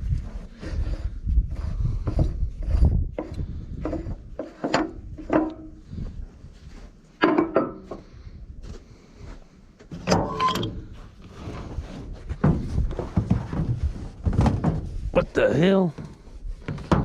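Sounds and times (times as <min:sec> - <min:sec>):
tools clunking and scraping: 0:00.2 - 0:15.1.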